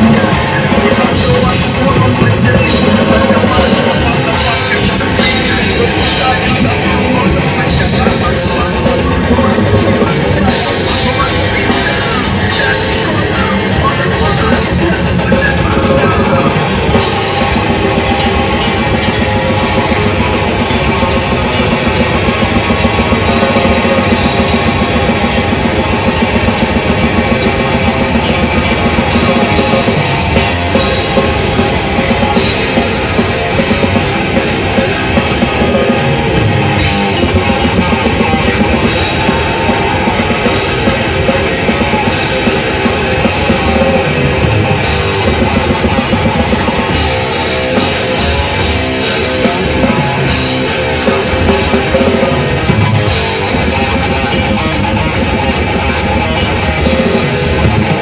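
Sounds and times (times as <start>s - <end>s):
distorted electric guitars: 0.0s - 58.0s
fast drumming with cymbals: 0.0s - 58.0s.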